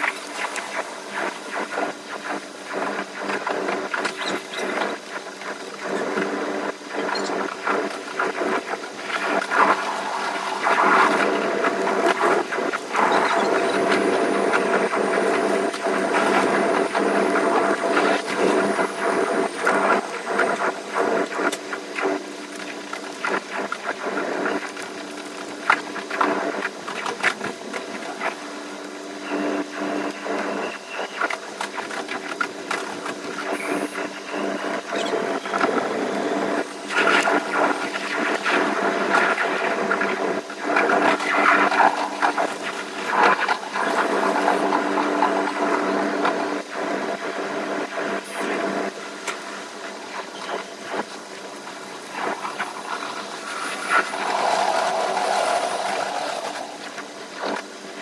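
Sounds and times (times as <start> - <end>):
train running on rails: 0.0 - 50.0, 50.7 - 58.0.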